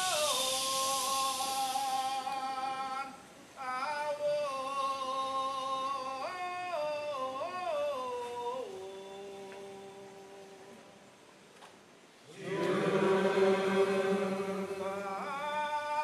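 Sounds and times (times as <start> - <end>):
man singing long notes: 0.0 - 11.1, 12.3 - 16.0.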